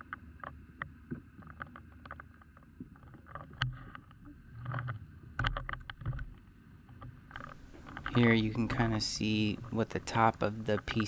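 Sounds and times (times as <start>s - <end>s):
sharp underwater clicks: 0.0s - 11.0s.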